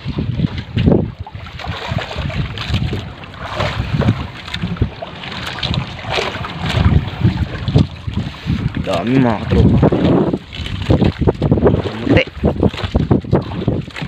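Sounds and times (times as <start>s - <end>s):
water splashing: 0.0s - 14.0s
wind buffeting microphone: 0.0s - 14.0s
wet rustle of fishing net: 1.4s - 14.0s.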